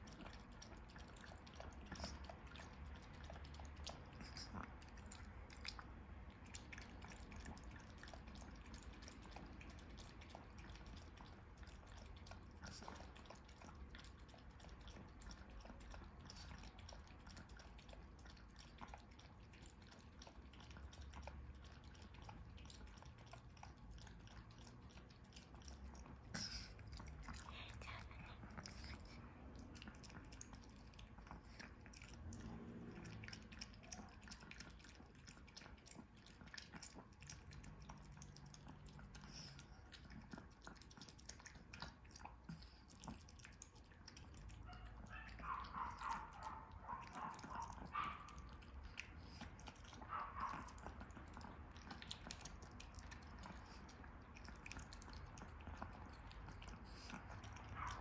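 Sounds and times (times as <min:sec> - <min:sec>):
dog chewing food: 0:00.0 - 0:58.0.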